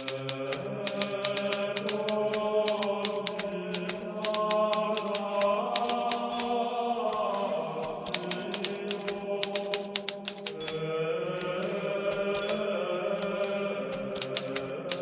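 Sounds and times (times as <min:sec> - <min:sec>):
typewriter keys striking: 0:00.0 - 0:15.0.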